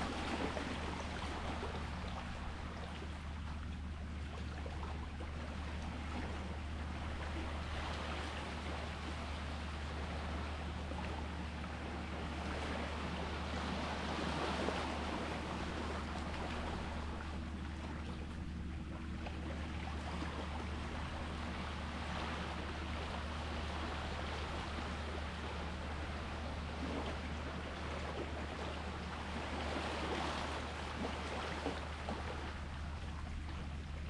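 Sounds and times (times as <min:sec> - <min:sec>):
constant low hum: 0:00.0 - 0:34.0
sea waves washing in: 0:00.0 - 0:34.0.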